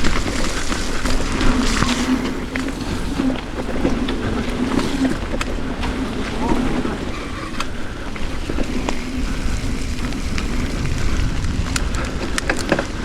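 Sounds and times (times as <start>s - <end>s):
tyre rumbling on dirt: 0.0s - 13.0s
wind on microphone: 0.0s - 13.0s.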